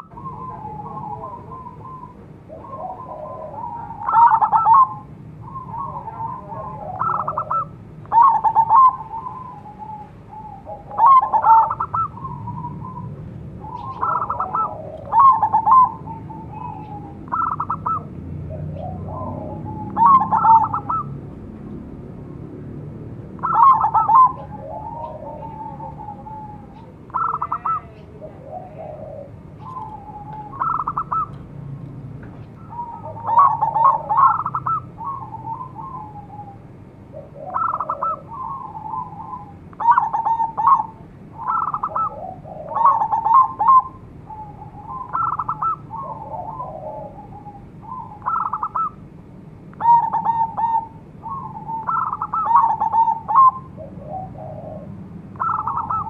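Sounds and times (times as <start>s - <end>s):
dove cooing: 0.0s - 21.5s, 23.4s - 31.7s, 32.6s - 49.1s, 49.7s - 56.0s.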